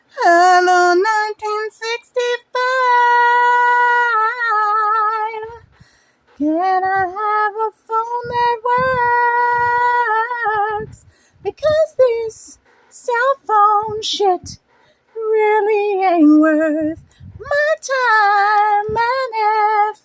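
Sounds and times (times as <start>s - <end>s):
woman singing a cappella: 0.0s - 20.0s.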